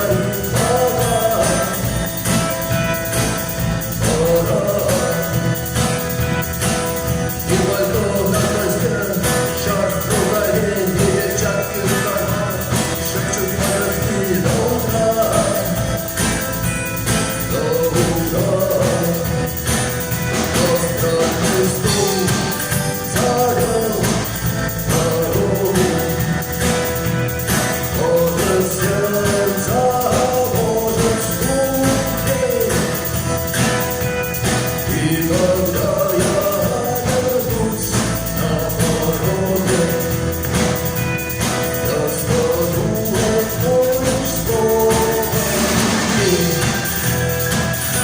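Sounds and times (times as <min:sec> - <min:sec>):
drum and tambourine beat: 0:00.0 - 0:48.0
man singing: 0:00.0 - 0:48.0
rock band playing: 0:00.0 - 0:48.0.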